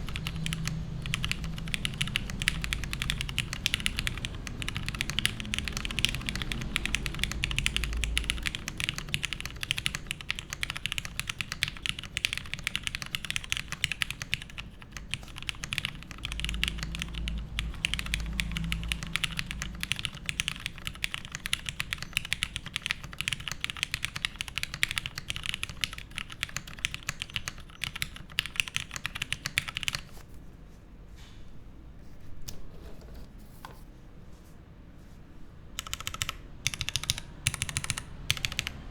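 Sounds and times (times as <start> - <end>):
mechanical keyboard typing: 0.0 - 30.2, 35.8 - 38.9.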